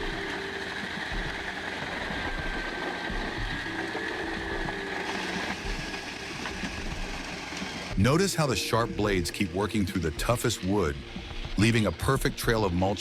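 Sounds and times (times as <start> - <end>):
heavy machine running: 0.0 - 13.0.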